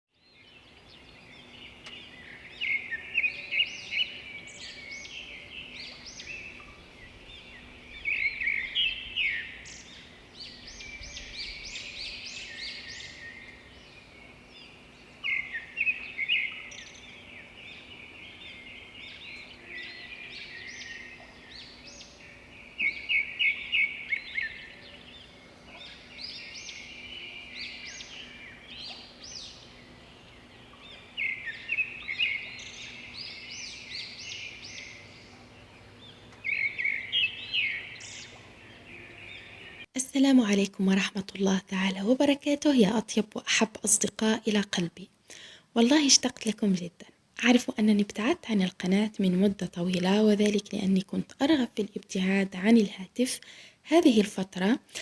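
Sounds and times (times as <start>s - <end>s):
birds chirping and singing: 0.2s - 44.7s
faint steady hum: 0.2s - 55.0s.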